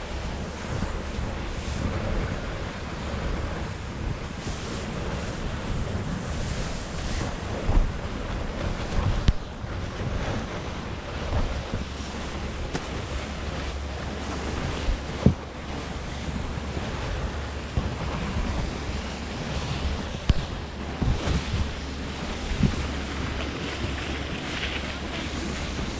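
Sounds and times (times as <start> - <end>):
steady low rumble: 0.0 - 25.9
wind noise on microphone: 0.0 - 25.9.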